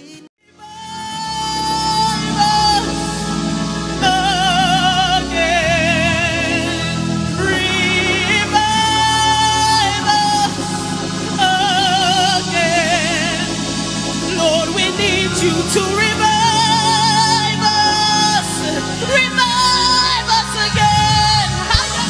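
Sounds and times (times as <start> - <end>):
lead vocal singing with vibrato: 0.0 - 22.0
band backing music: 0.7 - 22.0.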